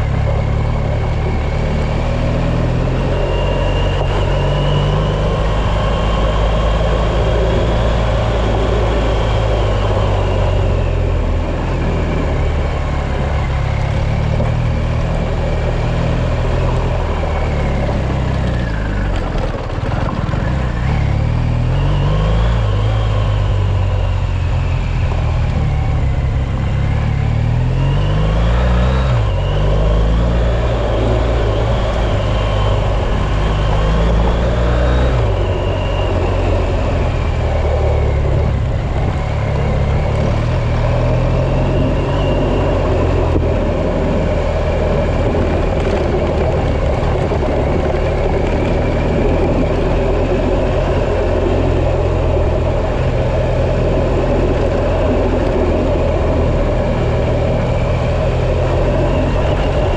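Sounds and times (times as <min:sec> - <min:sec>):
high whine: 0:00.0 - 0:59.9
off-road vehicle engine running: 0:00.0 - 0:59.9.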